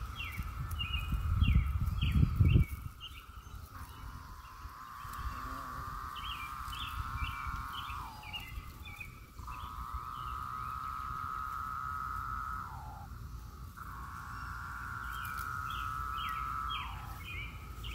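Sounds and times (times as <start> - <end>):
cicadas buzzing drone: 0.0 - 17.9.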